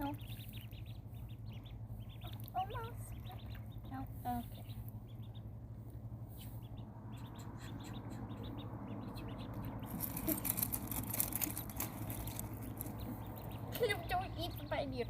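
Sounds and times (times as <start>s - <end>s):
ducklings peeping: 0.0s - 15.0s
low steady hum: 0.0s - 15.0s.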